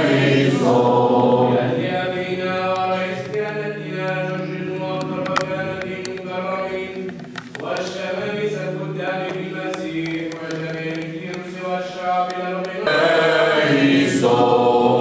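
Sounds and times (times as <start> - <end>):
liturgical chant singing: 0.0 - 15.0.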